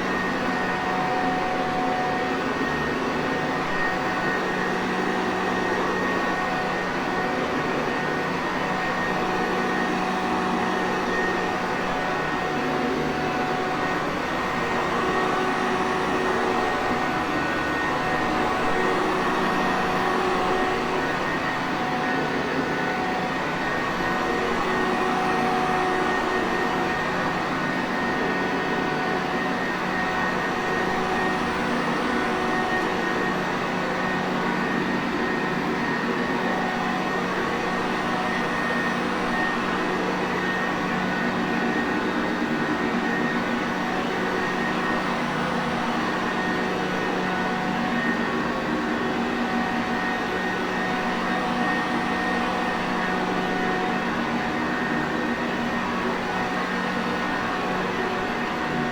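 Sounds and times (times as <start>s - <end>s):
vacuum cleaner running: 0.1s - 58.9s.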